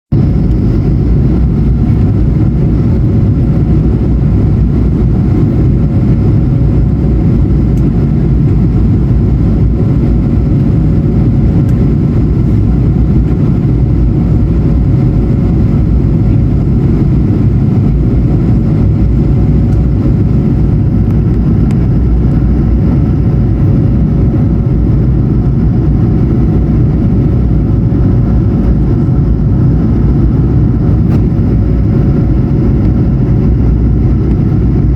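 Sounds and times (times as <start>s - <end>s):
aircraft cabin rumble: 0.1s - 34.9s.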